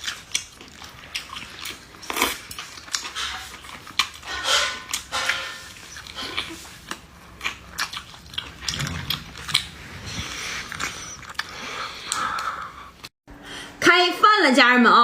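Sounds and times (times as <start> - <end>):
person chewing meat: 0.0 - 12.9.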